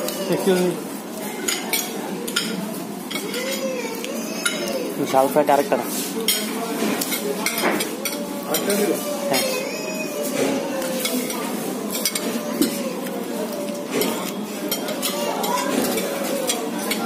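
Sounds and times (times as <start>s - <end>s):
cutlery clinking on plates: 0.0s - 4.9s, 5.9s - 17.0s
background chatter of voices: 0.0s - 17.0s.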